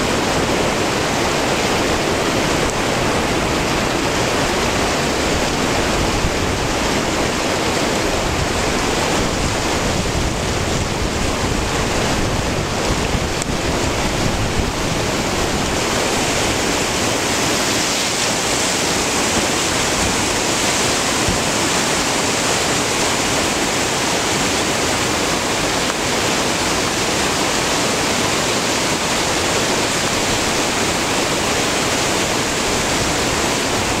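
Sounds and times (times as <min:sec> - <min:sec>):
water rushing over boulders: 0:00.0 - 0:34.0.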